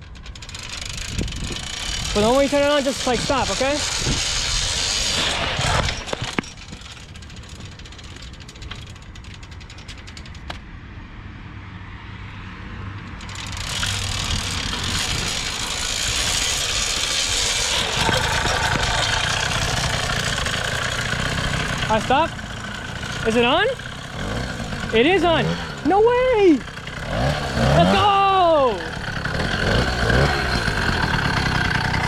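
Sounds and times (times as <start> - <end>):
bicycle chain and freewheel ticking: 0.0 - 5.6, 6.3 - 10.5, 13.2 - 32.0
two-stroke engine running: 0.0 - 10.5, 13.2 - 32.0
two-stroke engine turning over: 0.0 - 10.6, 13.1 - 32.0.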